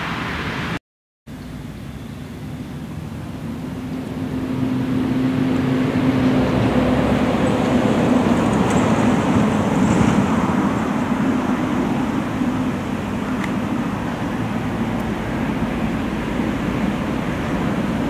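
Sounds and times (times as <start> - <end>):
road traffic hiss: 0.0 - 18.0
vehicle engine humming: 0.0 - 18.0.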